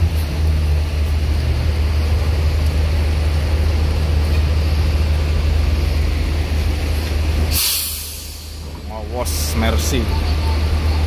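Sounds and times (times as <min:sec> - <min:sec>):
bus diesel engine rumbling: 0:00.0 - 0:11.0
rain hissing: 0:00.3 - 0:10.9.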